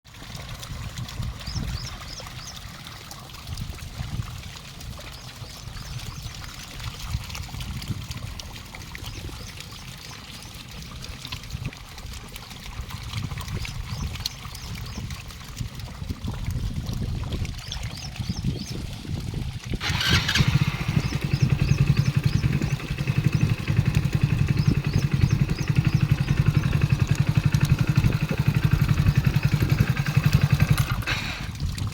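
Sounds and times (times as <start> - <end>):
water trickling and pouring: 0.1 - 31.9.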